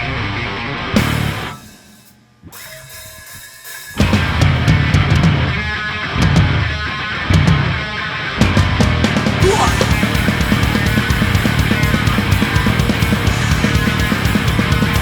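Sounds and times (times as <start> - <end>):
punk rock band playing: 0.9 - 15.0
fast driving drums: 1.0 - 15.0.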